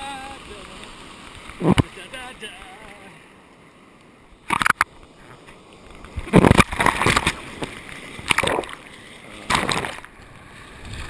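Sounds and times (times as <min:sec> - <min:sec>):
surf splashing over camera: 0:00.0 - 0:03.4, 0:04.4 - 0:11.0.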